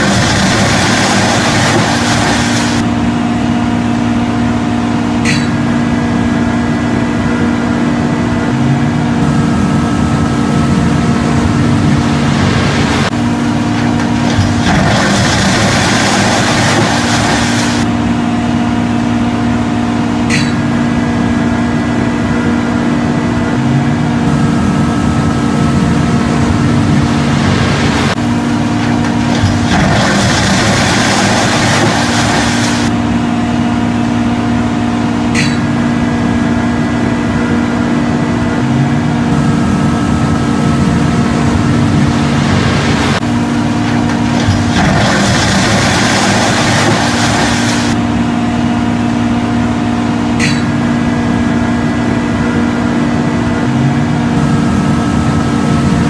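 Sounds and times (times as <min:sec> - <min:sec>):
crane machinery humming: 0:00.0 - 0:56.0.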